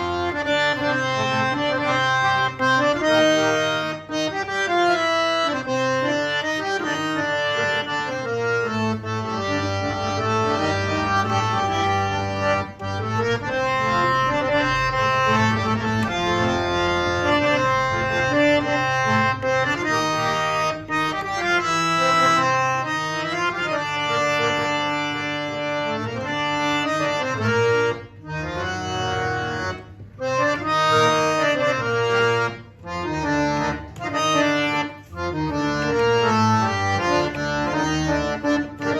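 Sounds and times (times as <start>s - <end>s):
harmonium melody: 0.0s - 38.9s.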